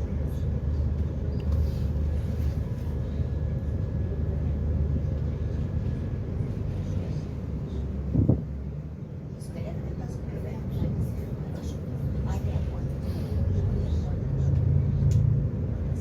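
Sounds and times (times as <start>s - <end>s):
boat engines droning: 0.0s - 16.0s
faint engine whine: 0.0s - 16.0s.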